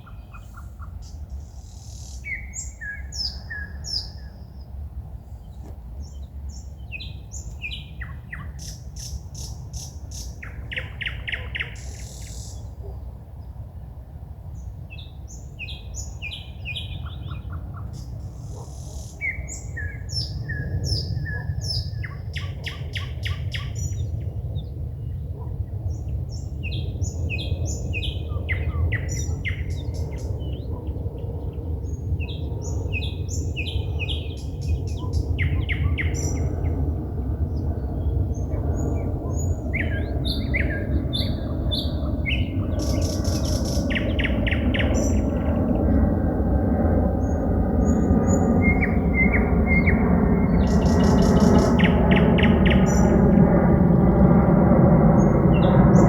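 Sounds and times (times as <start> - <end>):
songbirds singing: 0.0 - 13.6, 14.5 - 46.2, 47.0 - 53.8, 55.0 - 56.0.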